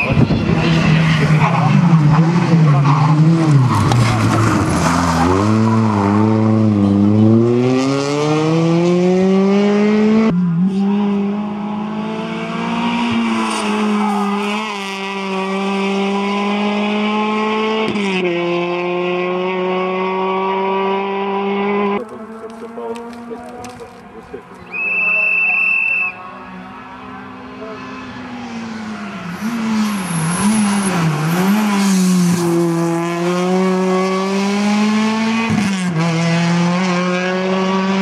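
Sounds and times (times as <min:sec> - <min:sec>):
rally car engine accelerating: 0:00.0 - 0:24.8, 0:26.4 - 0:38.0.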